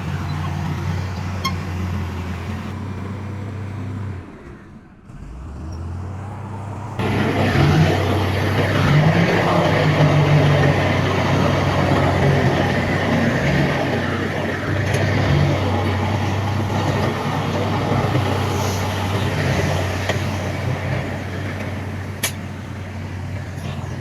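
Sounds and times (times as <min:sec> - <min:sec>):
heavy diesel engines droning: 0:00.0 - 0:24.0.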